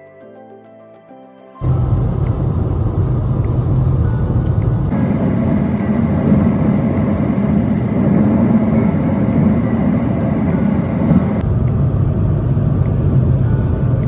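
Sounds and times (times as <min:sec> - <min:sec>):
road and engine noise inside car: 0:01.6 - 0:14.0.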